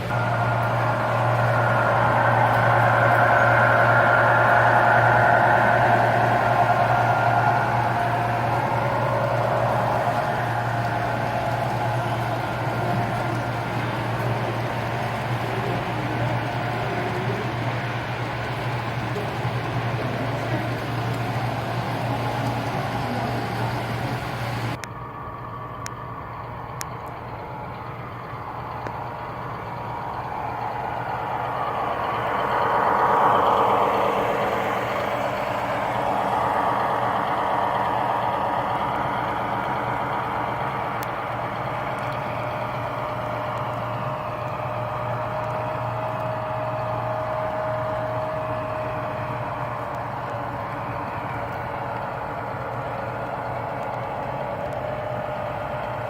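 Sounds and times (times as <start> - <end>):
model train diesel engine sound: 0.0 - 56.0.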